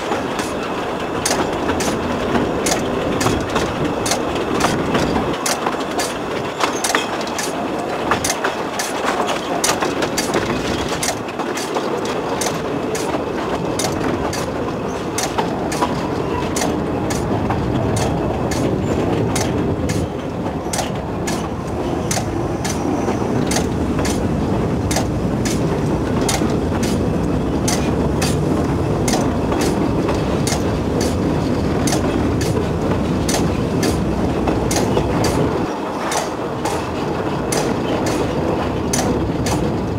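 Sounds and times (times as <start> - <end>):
train rumbling along track: 0.0 - 39.9
wheels clicking over rail joints: 0.0 - 39.9.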